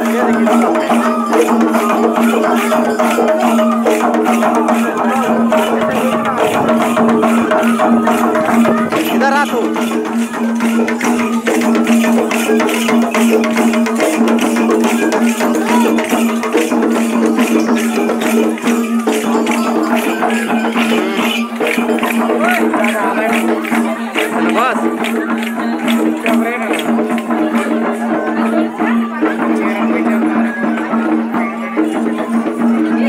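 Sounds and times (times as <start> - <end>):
fast jingling percussion: 0.0 - 33.0.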